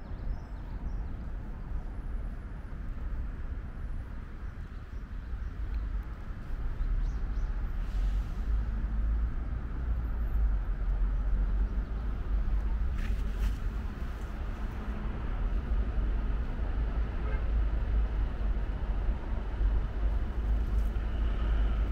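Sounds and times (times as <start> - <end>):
distant city traffic rumble: 0.0 - 21.9.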